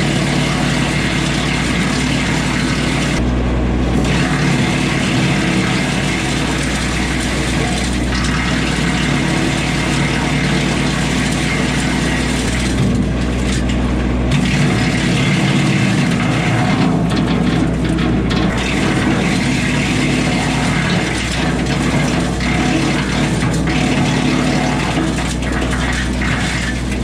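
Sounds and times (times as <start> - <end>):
tractor engine hum: 0.0 - 27.0
wood chipper grinding limbs: 0.0 - 27.0.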